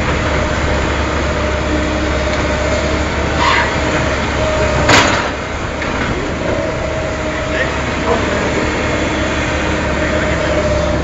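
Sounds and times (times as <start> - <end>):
diesel machinery drone: 0.0 - 11.0.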